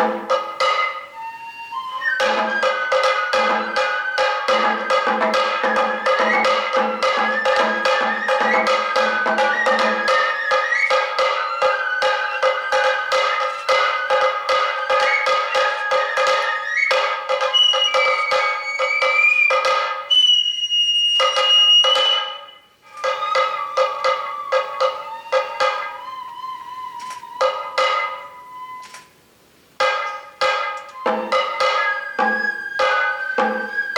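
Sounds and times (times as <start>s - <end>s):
steady drum strokes: 0.0s - 20.5s, 21.1s - 26.1s, 29.4s - 33.9s
bamboo flute melody: 0.0s - 33.9s.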